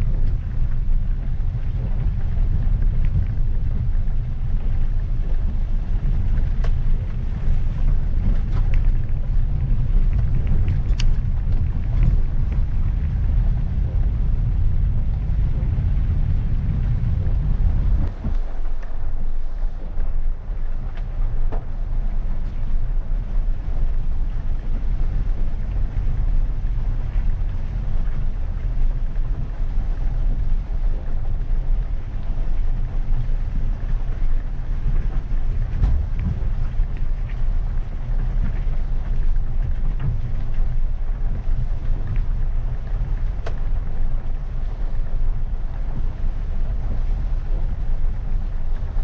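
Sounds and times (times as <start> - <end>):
car engine and tyre rumble: 0.0 - 49.0.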